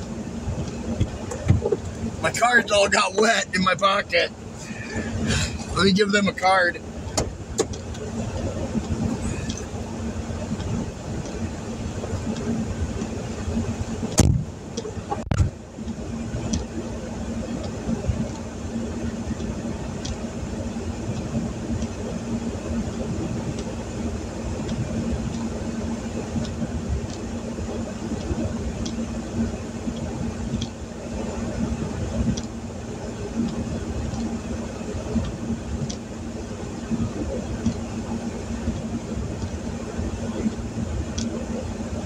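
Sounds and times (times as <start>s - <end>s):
heavy rain on vehicle roof: 0.0s - 42.0s
steady low hum: 0.0s - 42.0s.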